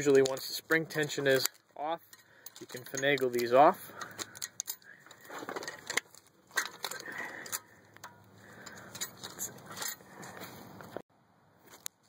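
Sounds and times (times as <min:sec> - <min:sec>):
hands scraping metal parts: 0:00.0 - 0:11.0.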